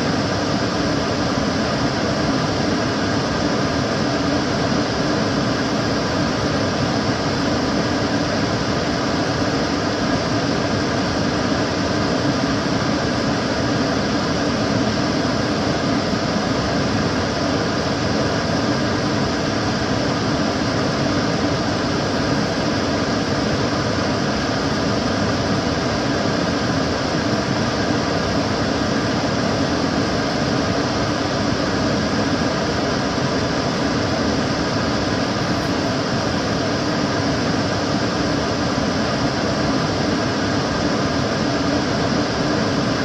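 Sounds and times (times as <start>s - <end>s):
extractor fan running: 0.0s - 43.0s.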